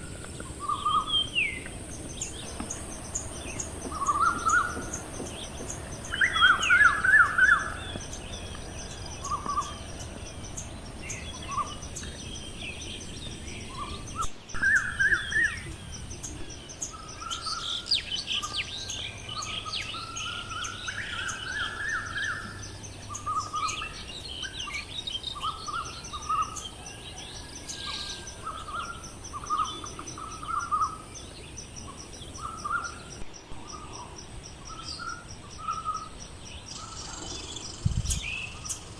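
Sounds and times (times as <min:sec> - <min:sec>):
birds chirping and calling: 0:00.0 - 0:38.9
steady high-pitched hiss: 0:00.0 - 0:38.9.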